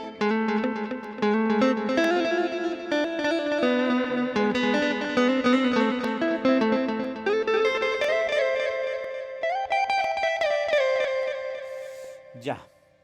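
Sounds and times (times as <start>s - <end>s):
electric guitar plucked notes: 0.0s - 12.4s.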